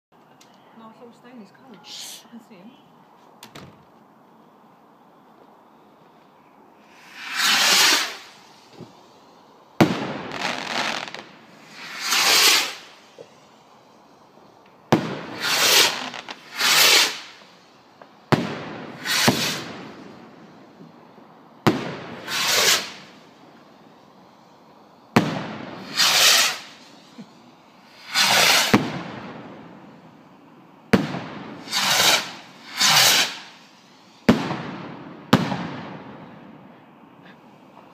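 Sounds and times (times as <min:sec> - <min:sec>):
firework rockets hissing: 0:05.0 - 0:37.8.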